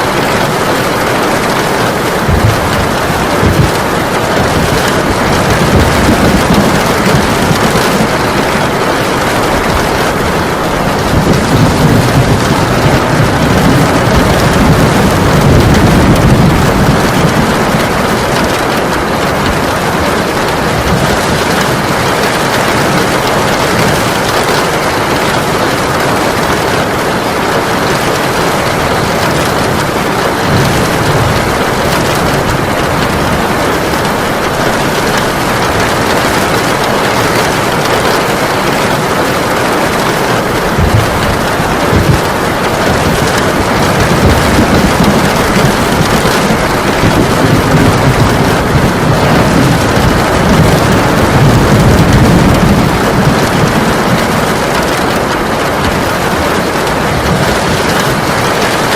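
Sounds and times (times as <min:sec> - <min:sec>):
heavy rain pouring: 0:00.0 - 0:58.9.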